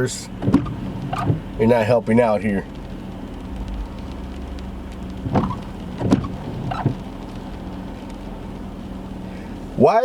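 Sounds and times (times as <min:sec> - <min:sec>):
car engine humming: 0:00.0 - 0:10.0
rain on a car: 0:00.0 - 0:10.0
windshield wipers knocking: 0:00.3 - 0:08.8.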